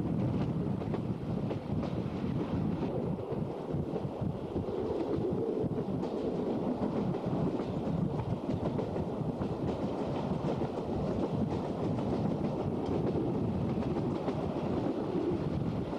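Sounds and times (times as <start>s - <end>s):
faint rail clatter: 0.0s - 15.9s
train wheels rumbling on rails: 0.0s - 15.9s.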